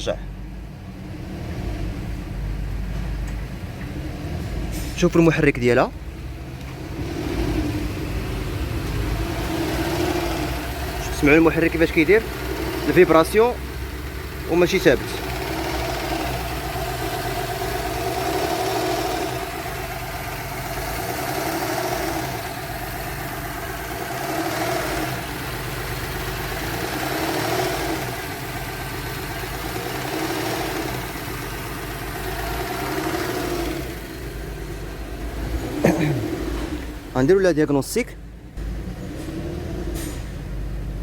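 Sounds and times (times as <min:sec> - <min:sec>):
engine idling unevenly: 0:01.9 - 0:41.0.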